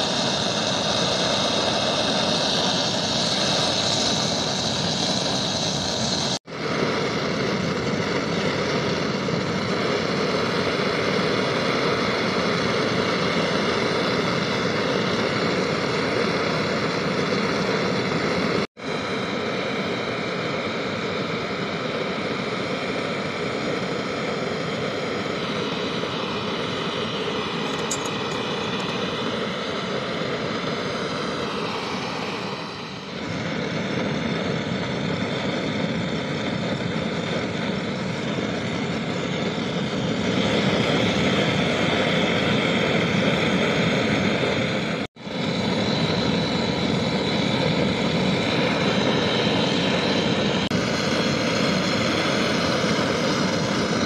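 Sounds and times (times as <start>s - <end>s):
gas torch flame rushing: 0.0s - 54.0s.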